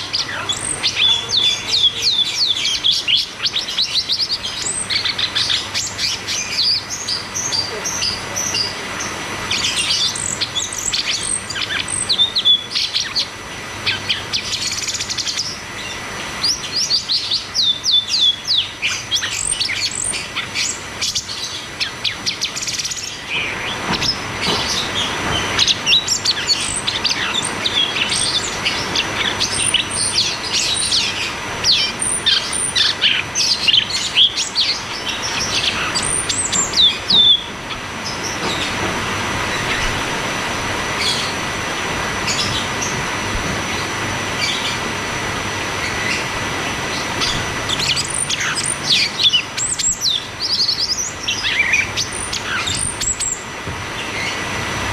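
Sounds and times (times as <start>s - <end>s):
bird singing rapid whistled notes: 0.0s - 8.8s, 9.5s - 38.4s, 47.2s - 53.4s.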